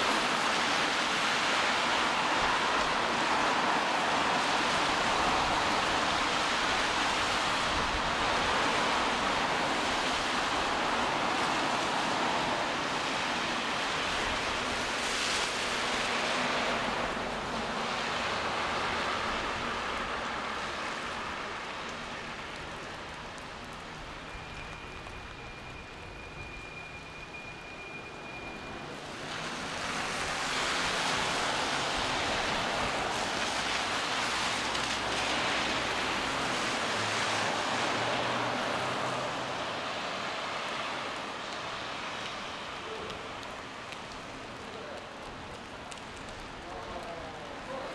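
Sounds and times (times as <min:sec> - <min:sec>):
rain on a wet street: 0:00.0 - 0:47.9.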